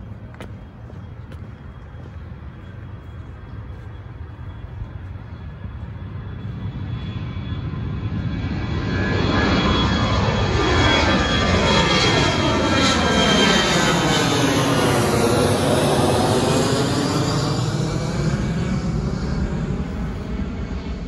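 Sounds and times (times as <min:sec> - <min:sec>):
jet airliner engine roar: 0:00.0 - 0:21.0
plane whooshing overhead: 0:00.0 - 0:21.0.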